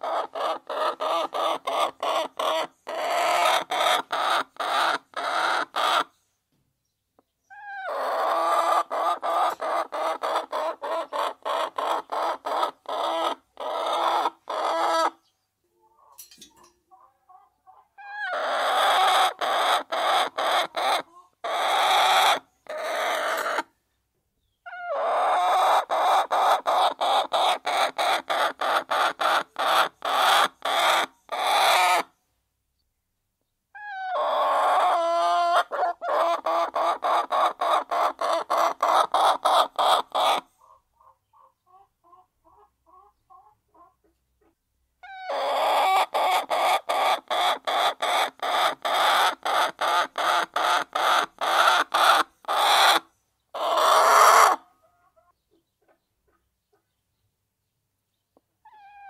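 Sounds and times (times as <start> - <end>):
hens clucking and calling: 0.0 - 6.1, 7.2 - 23.8, 24.6 - 32.2, 33.8 - 57.0.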